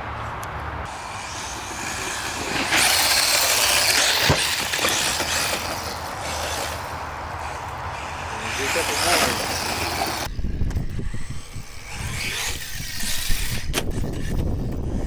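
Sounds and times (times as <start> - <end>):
rc truck motor hiss: 0.9 - 15.0.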